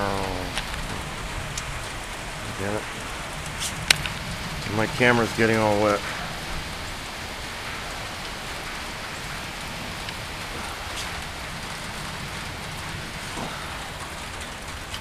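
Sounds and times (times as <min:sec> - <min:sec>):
heavy rain pouring: 0:00.0 - 0:15.0
raindrops ticking on camera: 0:00.0 - 0:15.0.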